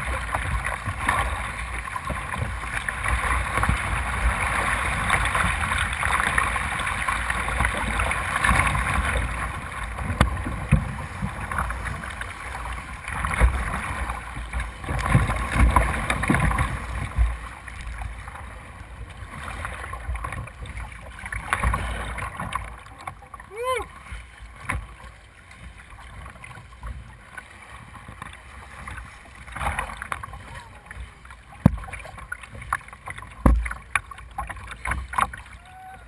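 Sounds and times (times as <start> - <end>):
waves slapping kayak hull: 0.0 - 36.0
white water rushing and splashing: 0.0 - 36.0.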